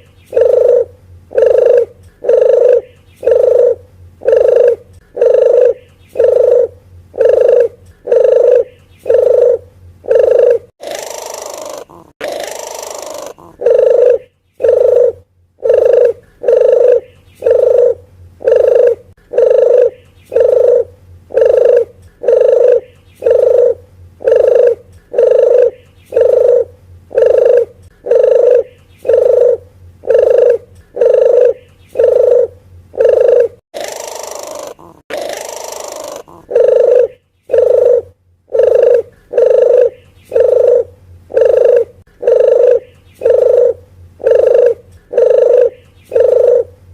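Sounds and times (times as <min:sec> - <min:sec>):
dove cooing call: 0:00.0 - 0:46.9
harsh dove call: 0:00.3 - 0:46.7.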